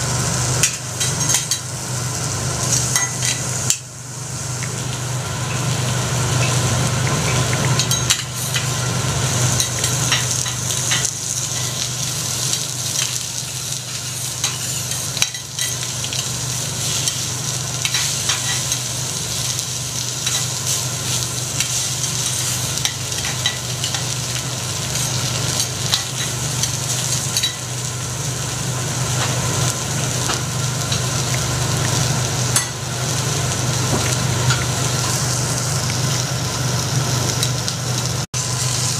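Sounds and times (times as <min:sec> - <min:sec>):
food sizzling on a griddle: 0:00.0 - 0:38.9.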